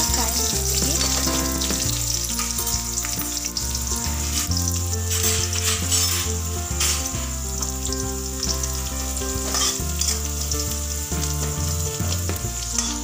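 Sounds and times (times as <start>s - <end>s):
spices sizzling in hot oil: 0.0s - 13.0s.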